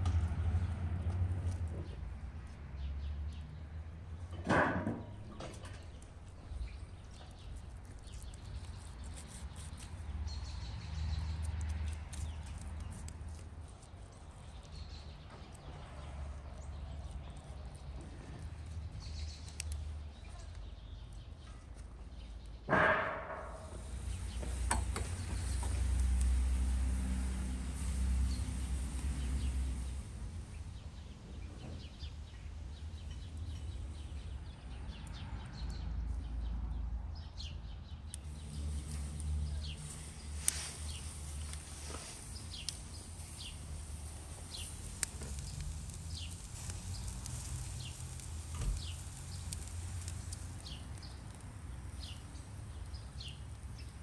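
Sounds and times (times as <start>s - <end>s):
small birds chirping: 5.1s - 22.7s, 23.6s - 26.8s, 27.4s - 54.0s.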